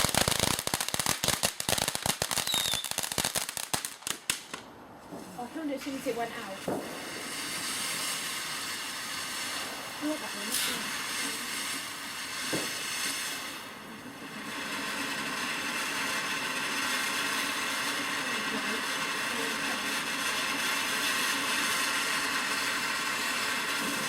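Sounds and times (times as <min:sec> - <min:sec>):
firework fountain hissing: 0:00.0 - 0:24.0.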